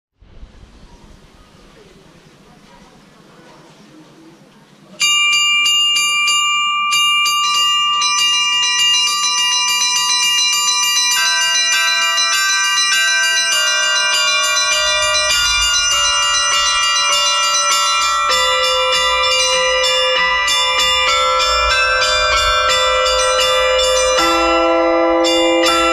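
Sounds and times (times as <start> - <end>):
lower bells ringing: 4.9 - 25.9
small high bells striking quickly: 5.0 - 25.9.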